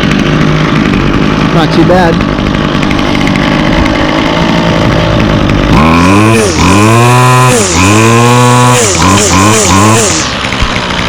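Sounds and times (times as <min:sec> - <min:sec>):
string trimmer engine revving: 0:00.0 - 0:11.0.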